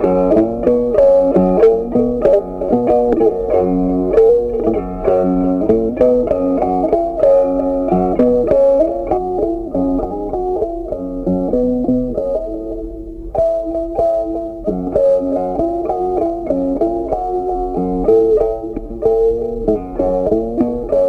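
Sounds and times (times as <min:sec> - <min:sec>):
plucked guitar tune: 0:00.0 - 0:21.0.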